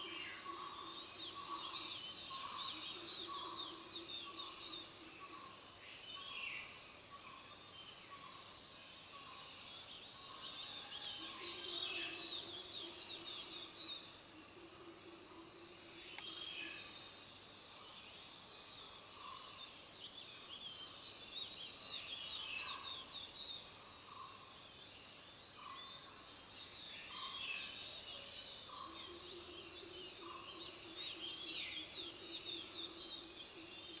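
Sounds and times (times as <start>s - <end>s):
small birds twittering: 0.0s - 15.0s, 15.8s - 34.0s.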